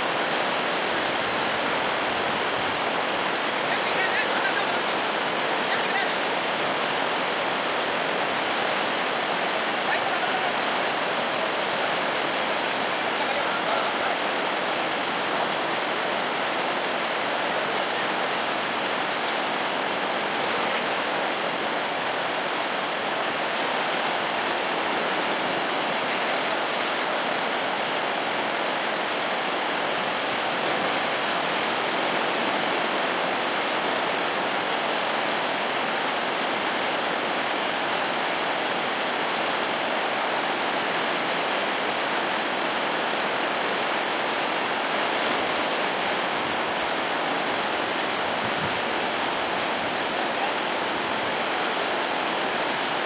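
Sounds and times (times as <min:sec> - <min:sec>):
floodwater rushing: 0:00.0 - 0:53.0.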